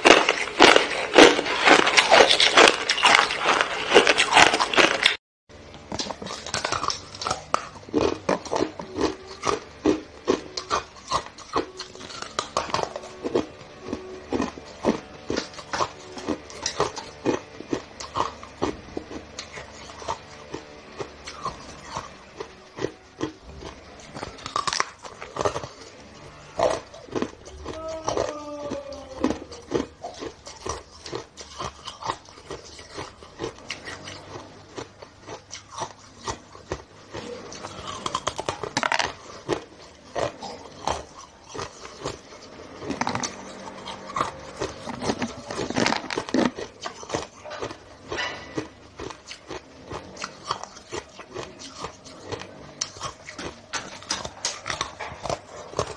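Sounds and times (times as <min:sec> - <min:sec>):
ice being chewed: 0:00.0 - 0:55.9.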